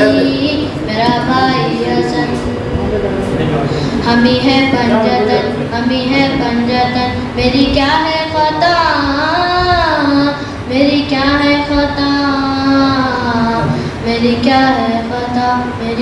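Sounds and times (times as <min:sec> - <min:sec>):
boy chanting: 0:00.0 - 0:02.9, 0:03.8 - 0:16.0.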